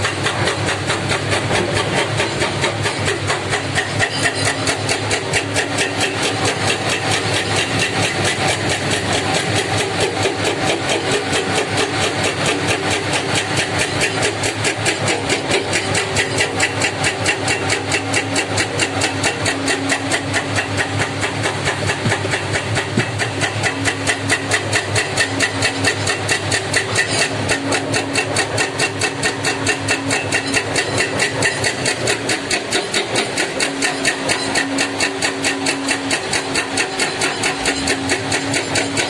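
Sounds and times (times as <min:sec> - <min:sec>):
heavy diesel engine clattering: 0:00.0 - 0:39.0.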